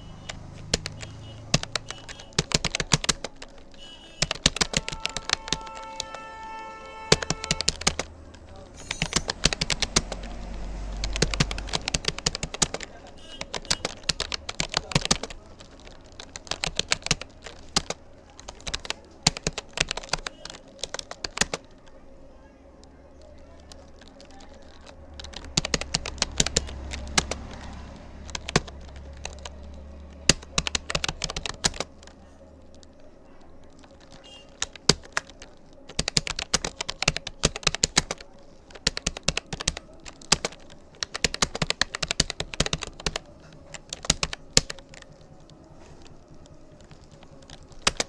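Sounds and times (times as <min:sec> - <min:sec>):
computer keyboard typing: 0:00.0 - 0:48.0.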